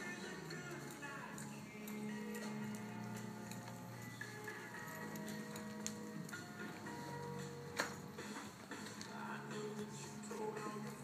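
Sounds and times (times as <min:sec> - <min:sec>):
background music of held notes: 0:00.0 - 0:11.0.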